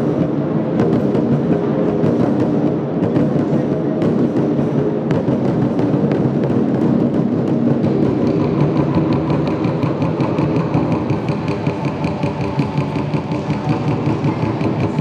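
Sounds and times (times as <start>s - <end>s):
drums beaten with sticks: 0.0s - 15.0s.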